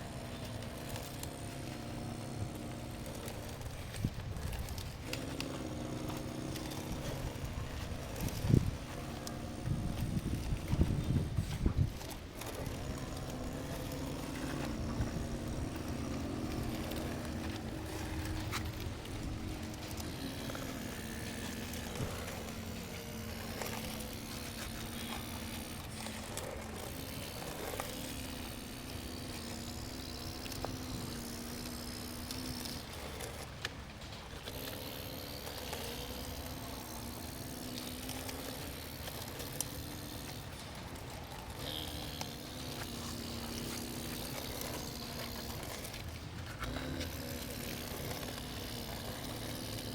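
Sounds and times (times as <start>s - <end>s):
model excavator motor humming: 0.0s - 49.9s.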